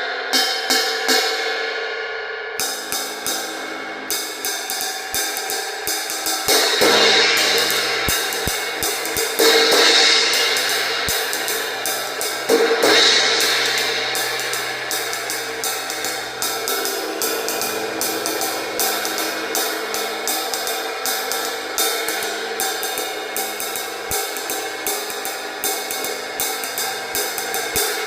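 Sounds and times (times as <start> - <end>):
hard cymbal crashes: 0.0 - 28.0
crash cymbal light hits: 2.6 - 28.0.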